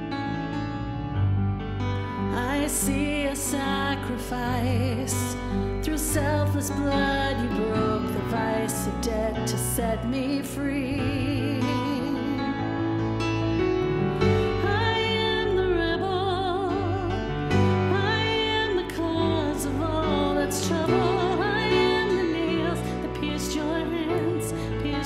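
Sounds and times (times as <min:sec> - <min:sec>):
guitars: 0:00.0 - 0:25.0
piano: 0:00.0 - 0:25.0.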